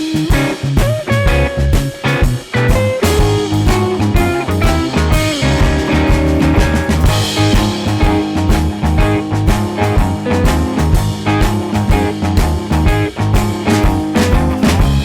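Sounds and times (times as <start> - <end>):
upbeat rock music: 0.0 - 15.0.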